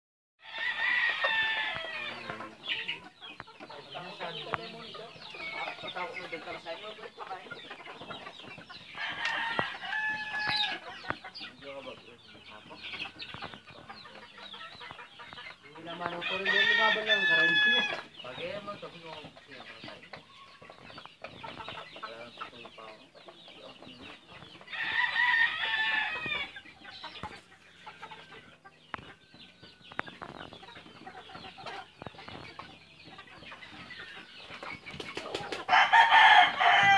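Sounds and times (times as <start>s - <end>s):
chickens clucking and calling: 0.4s - 36.9s.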